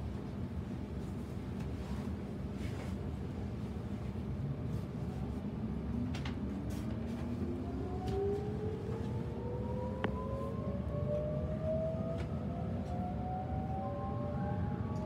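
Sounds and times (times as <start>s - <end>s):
low train rumble: 0.0s - 15.0s.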